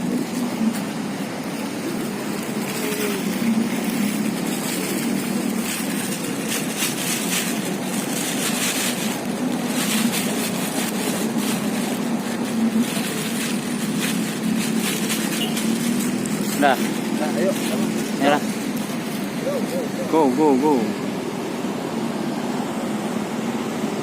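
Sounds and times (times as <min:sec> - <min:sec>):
bright rustling noises: 0:00.0 - 0:24.0
broad hiss: 0:00.0 - 0:24.0
low motor hum: 0:00.0 - 0:24.0.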